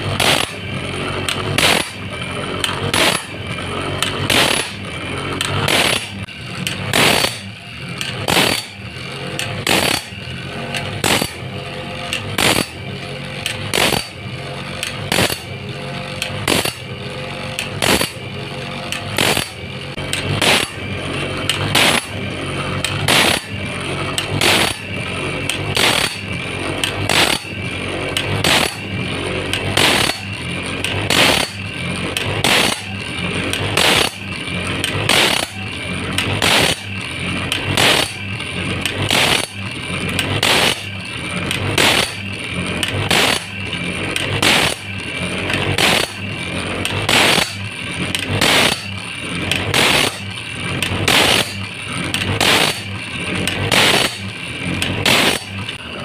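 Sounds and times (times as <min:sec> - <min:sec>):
electric motor humming: 0:00.0 - 0:56.0
grinding wheel on saw blade: 0:00.0 - 0:56.0
sharp mechanical click: 0:00.1 - 0:03.4, 0:04.0 - 0:14.2, 0:14.8 - 0:15.6, 0:16.2 - 0:22.2, 0:22.8 - 0:55.8.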